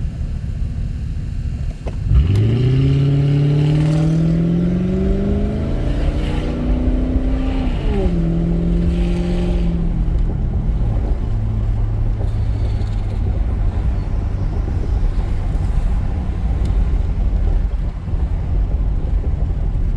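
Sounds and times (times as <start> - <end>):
car engine exhaust drone: 0.0 - 19.9.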